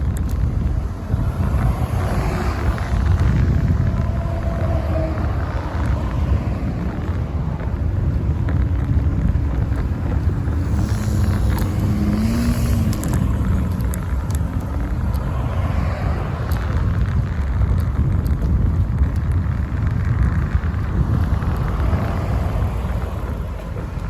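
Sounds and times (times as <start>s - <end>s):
road rumble: 0.0s - 24.0s
traffic passing: 0.0s - 24.0s
wind on microphone: 0.0s - 24.0s.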